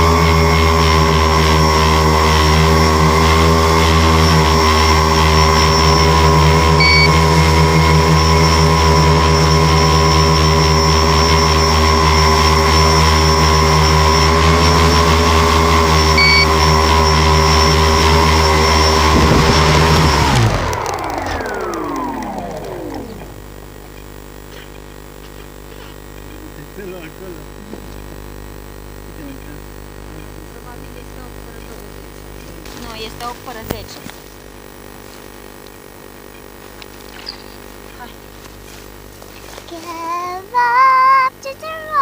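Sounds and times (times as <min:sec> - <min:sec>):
drone motors humming: 0:00.0 - 0:42.0.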